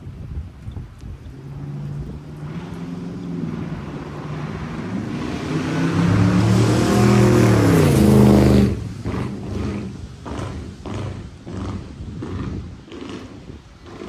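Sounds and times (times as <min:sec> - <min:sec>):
car engine accelerating hard: 0:01.2 - 0:13.7.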